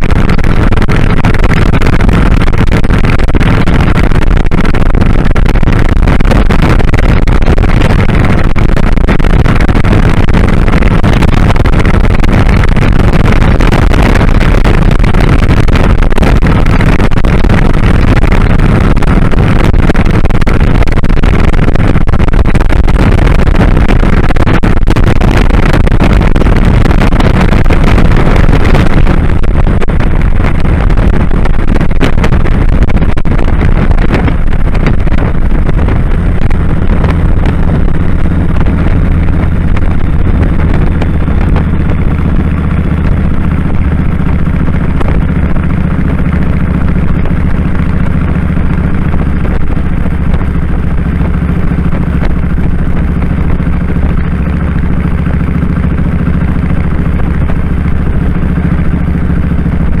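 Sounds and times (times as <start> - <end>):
motorcycle engine running: 0.0 - 60.0
wind on microphone: 0.0 - 60.0.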